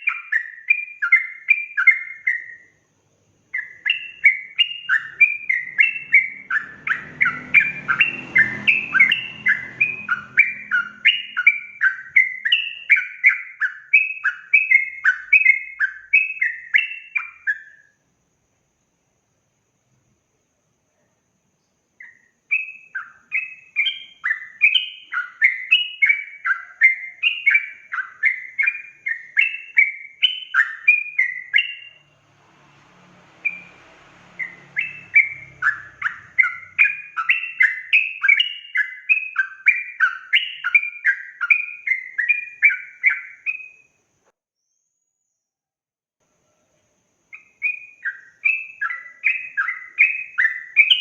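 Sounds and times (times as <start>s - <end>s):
bird warbling song: 0.0s - 18.0s, 21.6s - 43.9s, 46.6s - 51.0s.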